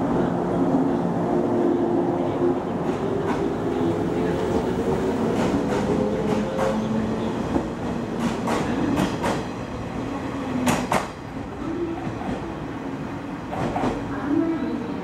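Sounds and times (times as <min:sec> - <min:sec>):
low steady train hum: 0:00.0 - 0:15.0.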